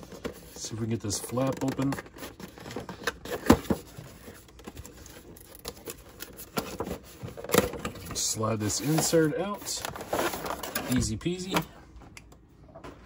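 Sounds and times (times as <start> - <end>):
cardboard and plastic rustling: 0.0 - 11.7.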